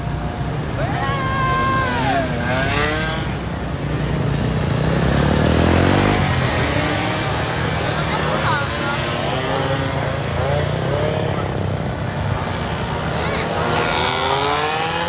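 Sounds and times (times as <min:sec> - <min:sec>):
car engine accelerating: 0:00.0 - 0:15.0
road rumble: 0:00.0 - 0:15.0.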